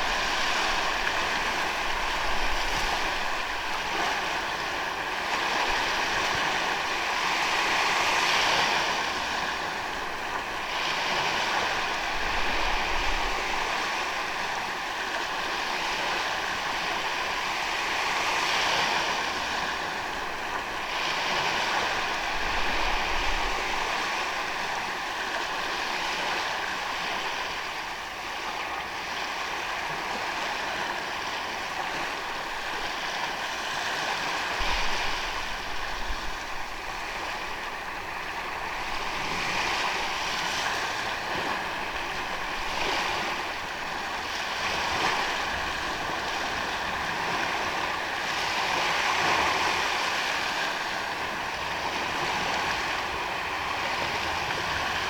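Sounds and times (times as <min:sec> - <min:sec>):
surf hissing on a beach: 0:00.0 - 0:55.0.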